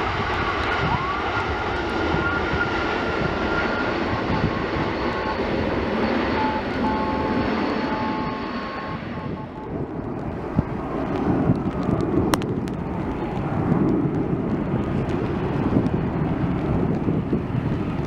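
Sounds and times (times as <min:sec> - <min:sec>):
airliner engines rushing: 0:00.0 - 0:18.0
wind buffeting microphone: 0:00.0 - 0:18.0.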